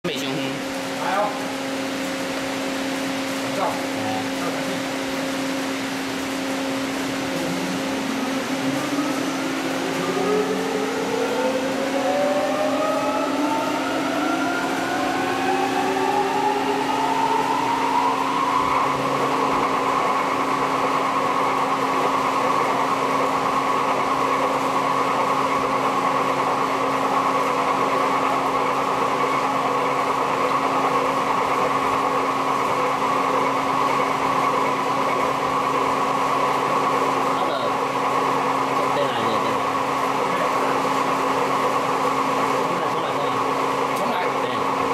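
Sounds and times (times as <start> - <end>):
machine spindle whine: 0.1 - 44.9.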